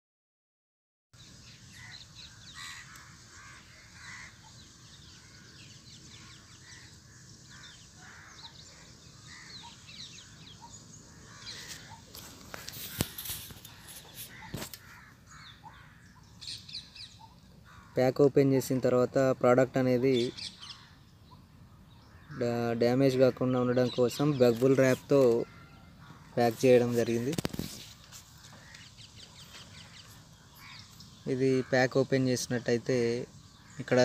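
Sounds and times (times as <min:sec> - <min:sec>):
birds chirping: 0:01.2 - 0:34.0.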